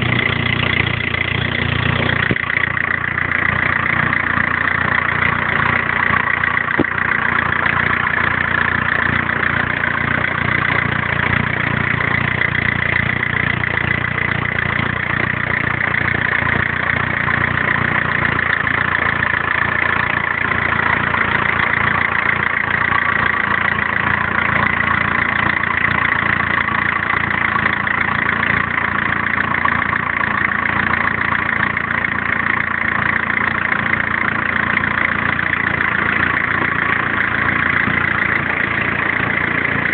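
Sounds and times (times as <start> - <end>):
diesel engine idling: 0.0 - 39.9
high-pitched engine whine: 0.0 - 39.9.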